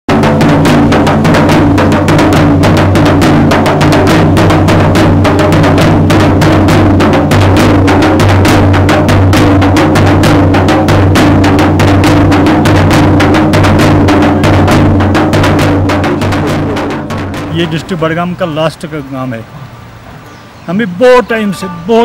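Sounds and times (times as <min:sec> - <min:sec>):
barrel drum beaten with sticks: 0:00.1 - 0:18.3.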